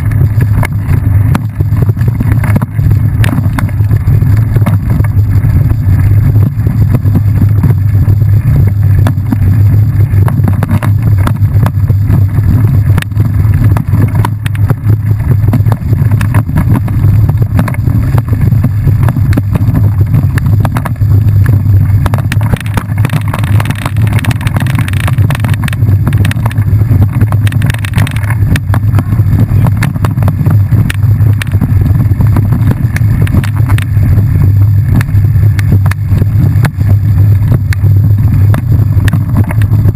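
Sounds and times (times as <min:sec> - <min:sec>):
mountain bike rattling: 0:00.0 - 0:39.9
wind rumble on microphone: 0:00.0 - 0:39.9.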